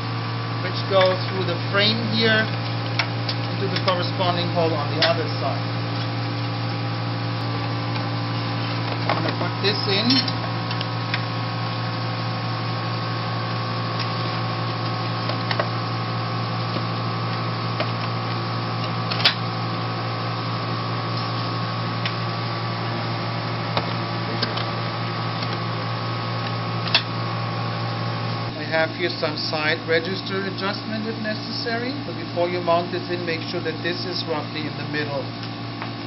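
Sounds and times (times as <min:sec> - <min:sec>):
steady machine hum: 0:00.0 - 0:36.0.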